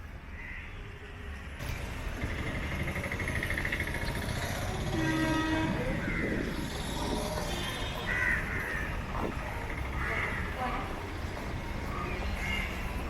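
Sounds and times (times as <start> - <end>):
train rumble: 1.1 - 13.0.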